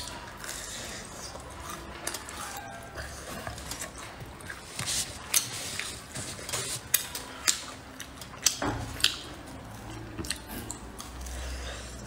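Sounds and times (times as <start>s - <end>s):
chewing crunchy fried food: 0.0s - 12.0s.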